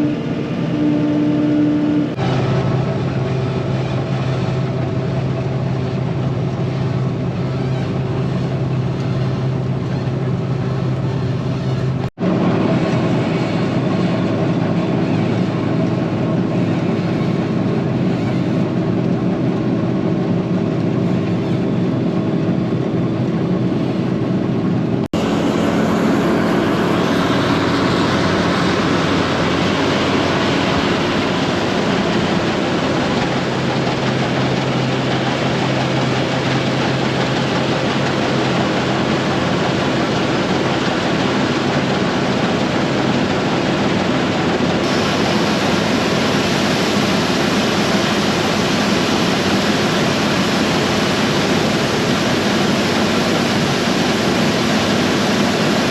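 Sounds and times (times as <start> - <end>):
heavy farm machinery running: 0.0 - 55.9.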